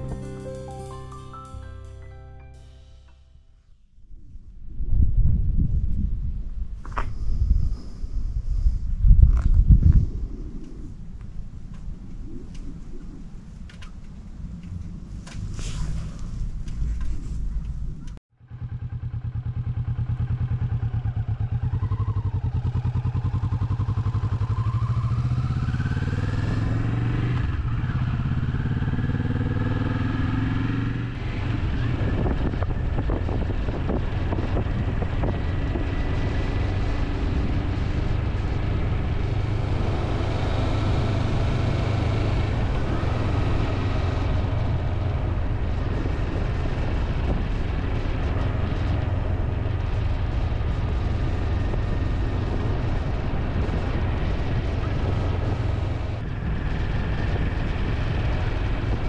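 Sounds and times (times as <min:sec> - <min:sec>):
wind noise: 0:04.0 - 0:18.2, 0:23.4 - 0:59.0
motorcycle engine accelerating: 0:08.4 - 0:59.0.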